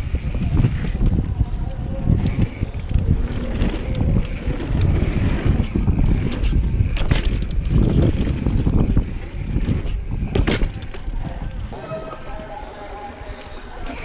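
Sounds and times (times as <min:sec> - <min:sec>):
bike clattering: 0:00.0 - 0:11.8
wind buffeting microphone: 0:00.0 - 0:11.8
bike tyres rumbling: 0:00.0 - 0:14.0.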